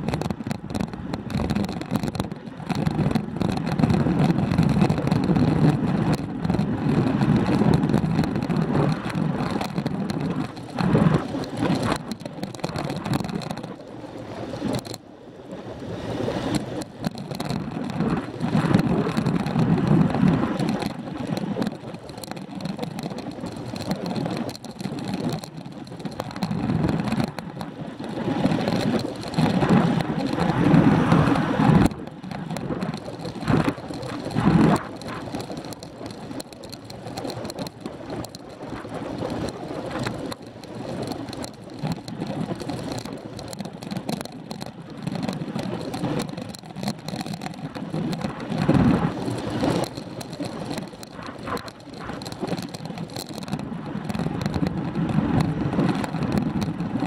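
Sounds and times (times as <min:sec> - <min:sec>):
wind rushing over microphone: 0:00.0 - 0:14.9, 0:15.6 - 0:57.0
bicycle tyre and road noise: 0:00.0 - 0:57.0.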